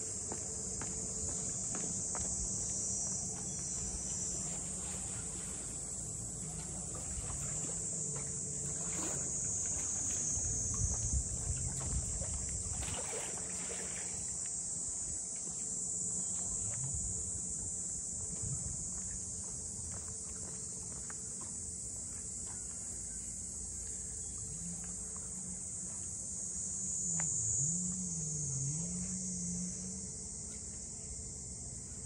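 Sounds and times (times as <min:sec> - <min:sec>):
cicadas buzzing: 0:00.0 - 0:32.0.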